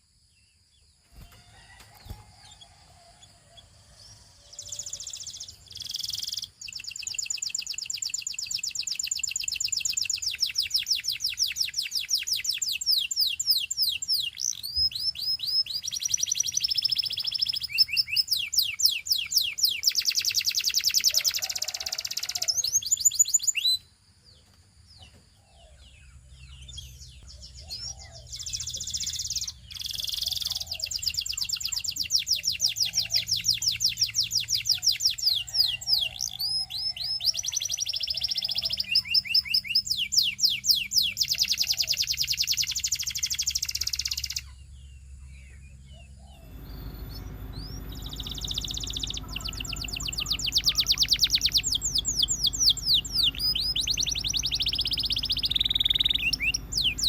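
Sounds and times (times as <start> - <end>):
canary singing trills: 1.1 - 57.0.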